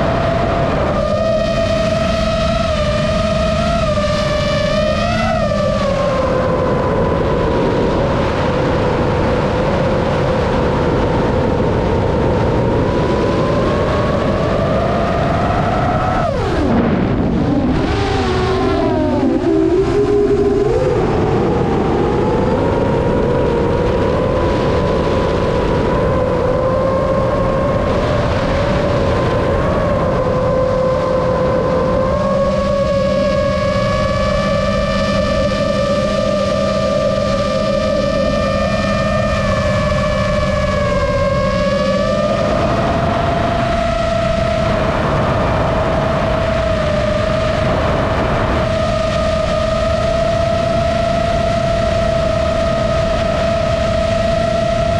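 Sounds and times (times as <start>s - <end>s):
heavy wind noise: 0.0s - 54.9s
rc airplane motor whine: 0.0s - 54.9s.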